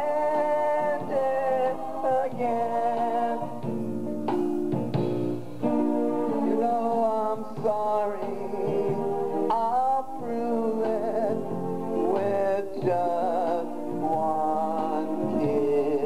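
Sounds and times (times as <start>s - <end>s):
man singing: 0.0s - 3.6s, 6.3s - 16.0s
instrumental backing music: 0.0s - 16.0s.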